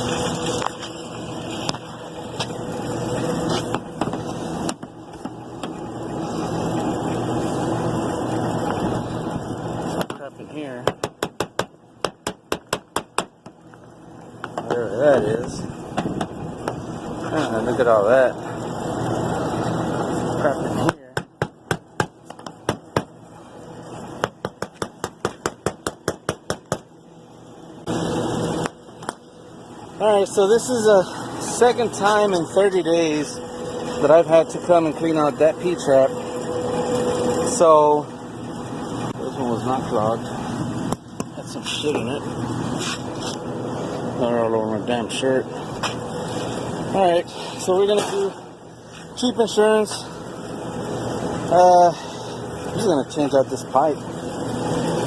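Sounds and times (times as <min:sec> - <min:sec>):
air conditioning machine hum: 0:00.0 - 0:55.0.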